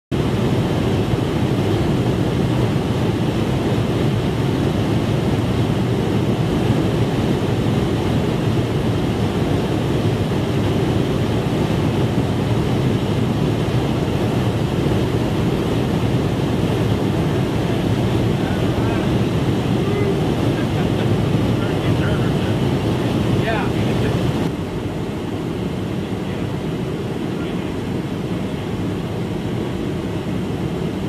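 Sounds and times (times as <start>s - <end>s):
jet aircraft roar in flight: 0.1s - 31.0s.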